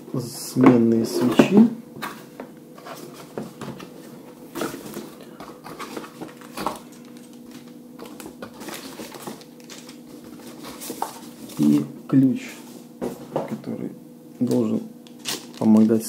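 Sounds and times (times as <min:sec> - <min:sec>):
faint steady hum: 0:00.0 - 0:16.0
cardboard and foam rustling: 0:01.0 - 0:13.5, 0:15.2 - 0:16.0.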